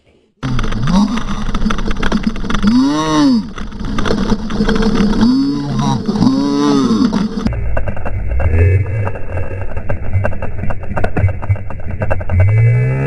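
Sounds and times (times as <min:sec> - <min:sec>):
bike trail noise: 0:00.4 - 0:13.0.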